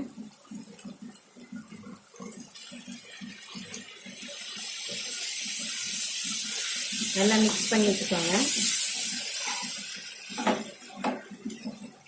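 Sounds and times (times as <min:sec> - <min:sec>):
water hissing in hot pan: 0:00.0 - 0:12.0.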